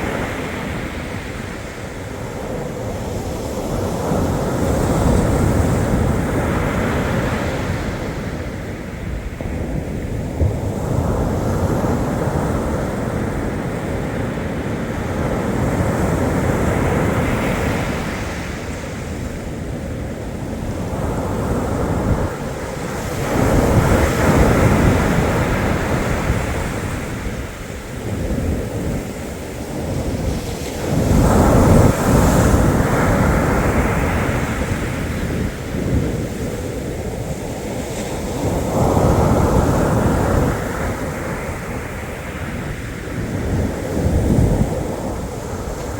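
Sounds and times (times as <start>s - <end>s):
sea surf washing onto shore: 0.0s - 45.9s
waves breaking: 0.0s - 45.9s.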